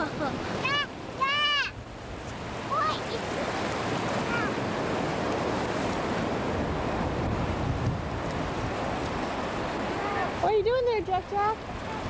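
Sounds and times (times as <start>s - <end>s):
ocean surf washing onto beach: 0.0s - 12.0s
wind on microphone: 1.7s - 12.0s.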